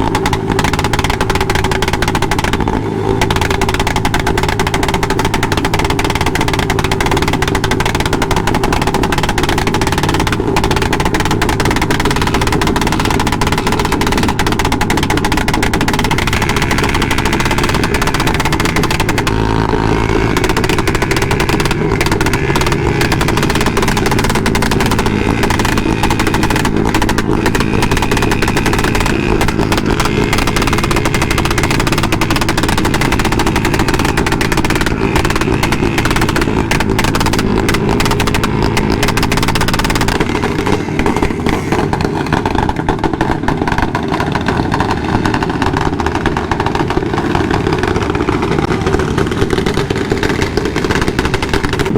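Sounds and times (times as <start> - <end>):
motorcycle engines revving: 0.0 - 51.9.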